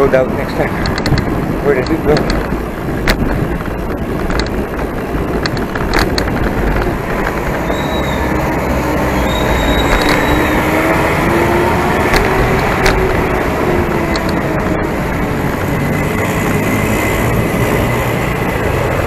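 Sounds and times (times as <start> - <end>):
bicycle road rumble: 0.0 - 19.0
wind on microphone: 0.0 - 19.0.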